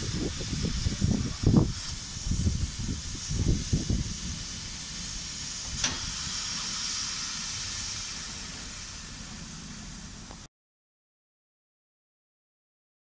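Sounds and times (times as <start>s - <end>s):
steam hissing from locomotive: 0.0s - 10.5s.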